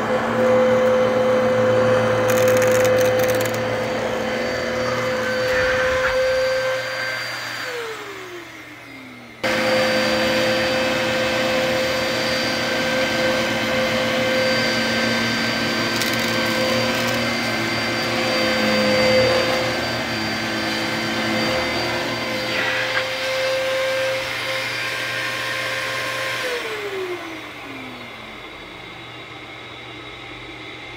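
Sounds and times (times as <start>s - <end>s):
vacuum cleaner motor whining: 0.0s - 30.9s.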